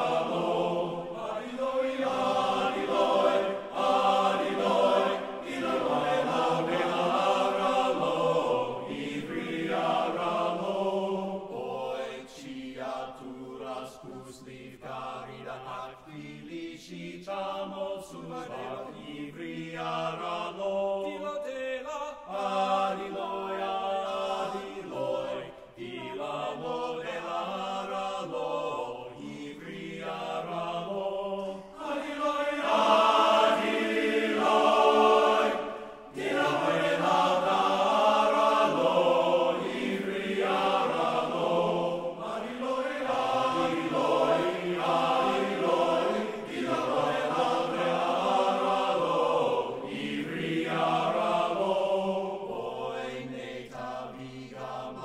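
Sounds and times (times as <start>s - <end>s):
men's chorus singing a cappella: 0.0s - 55.0s.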